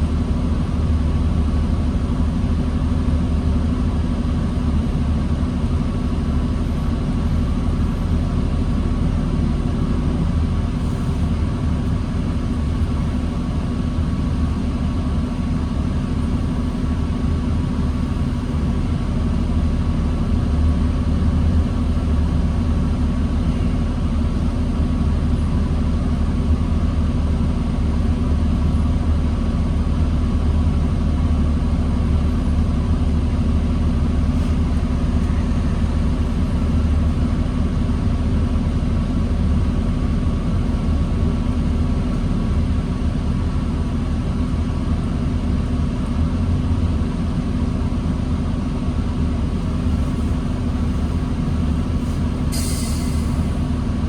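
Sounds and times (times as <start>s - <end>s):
diesel bus engine idling: 0.0s - 54.0s.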